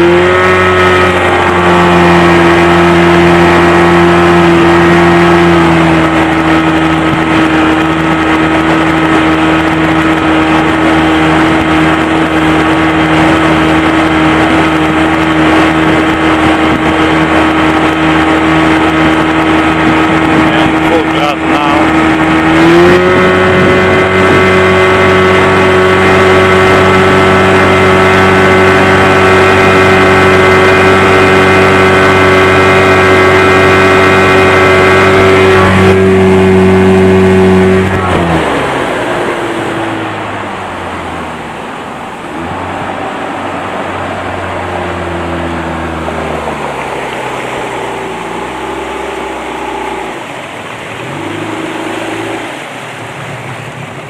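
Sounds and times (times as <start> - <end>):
outboard motor running: 0.0 - 54.0
rushing water: 0.0 - 54.0.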